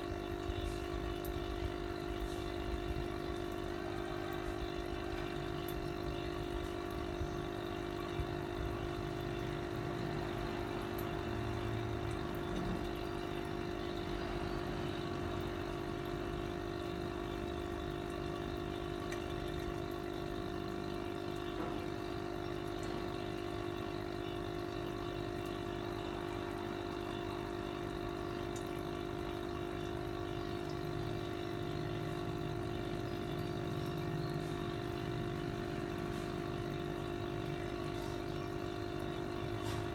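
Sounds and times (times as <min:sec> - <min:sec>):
aquarium air pump humming: 0:00.0 - 0:39.9.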